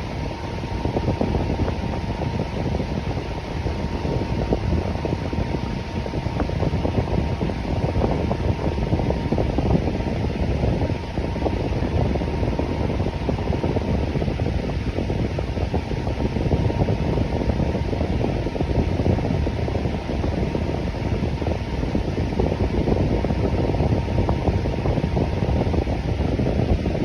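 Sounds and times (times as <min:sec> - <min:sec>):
electric fan whooshing: 0:00.0 - 0:27.0
faint steady hum: 0:00.0 - 0:27.0.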